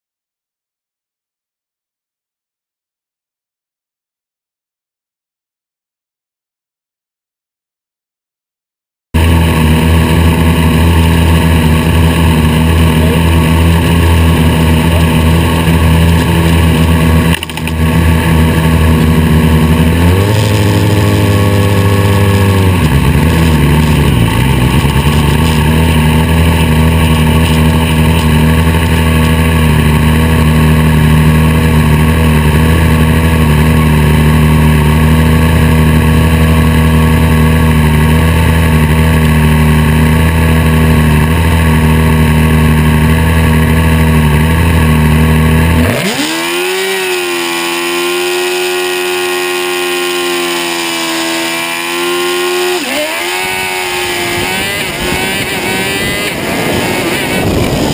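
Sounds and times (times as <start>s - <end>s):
race car engine idling and revving: 9.2s - 57.9s.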